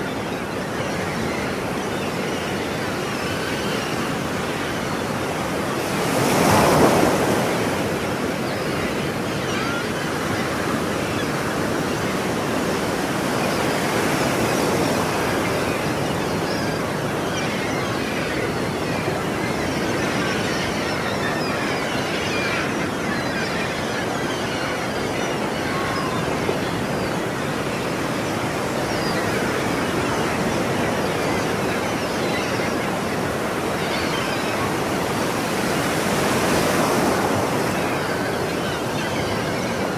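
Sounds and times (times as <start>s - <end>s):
waves washing onto shore: 0.0s - 19.4s, 23.5s - 39.9s.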